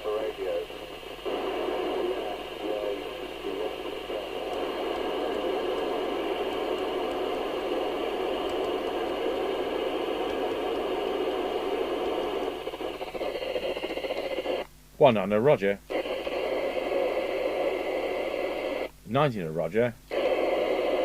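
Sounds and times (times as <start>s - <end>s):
radio static and hiss: 0.0s - 21.0s.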